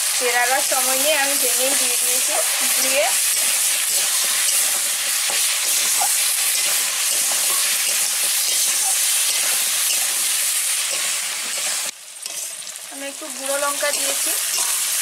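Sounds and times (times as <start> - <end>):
vegetables sizzling in hot oil: 0.0 - 15.0
spatula stirring in wok: 0.5 - 12.8, 13.4 - 15.0.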